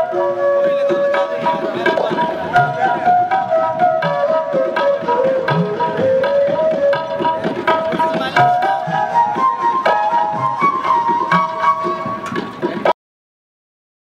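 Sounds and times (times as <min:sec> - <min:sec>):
hand drum beat: 0:00.0 - 0:12.9.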